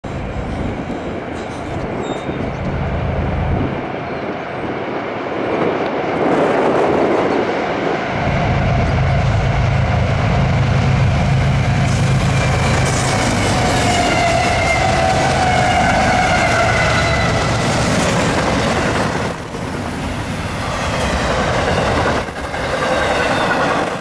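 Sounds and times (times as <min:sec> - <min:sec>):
diesel locomotive drone: 0:00.0 - 0:24.0
wheels rumbling on rails: 0:00.0 - 0:24.0.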